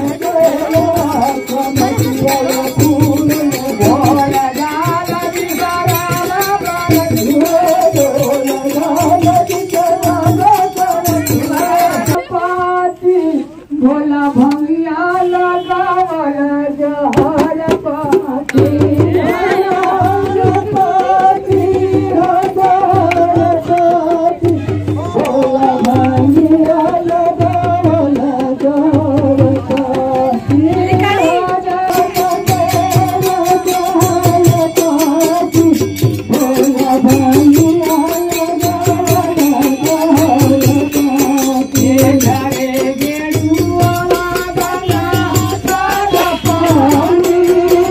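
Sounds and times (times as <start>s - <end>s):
steady drum beat: 0.0s - 12.3s, 17.0s - 47.9s
person singing into a microphone: 0.0s - 47.9s.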